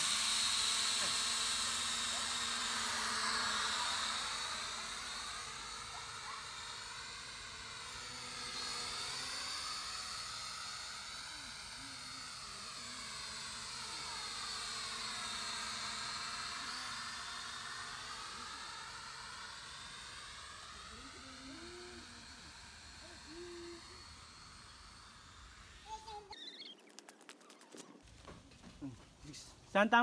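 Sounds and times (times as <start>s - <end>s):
drone propellers whining: 0.0s - 28.1s.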